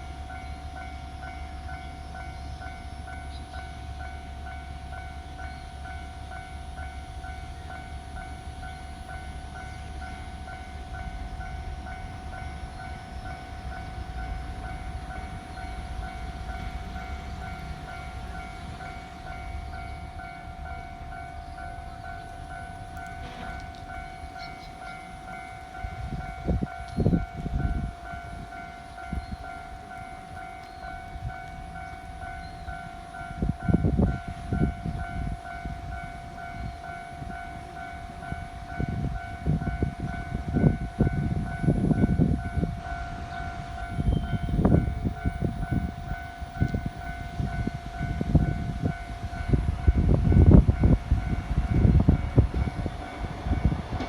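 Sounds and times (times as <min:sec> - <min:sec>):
level crossing alarm ringing: 0:00.0 - 0:54.0
train wheels clunking over rail joints: 0:04.4 - 0:54.0.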